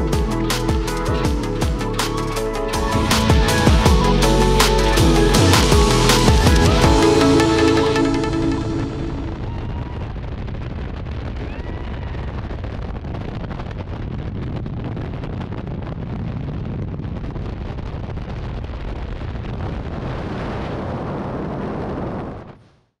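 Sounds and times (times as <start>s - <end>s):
freefall wind buffeting microphone: 0.0s - 22.6s.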